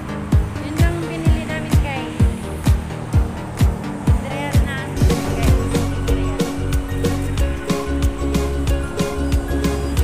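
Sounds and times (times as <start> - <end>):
background music melody: 0.0 - 10.0
steady kick drum beat: 0.2 - 10.0.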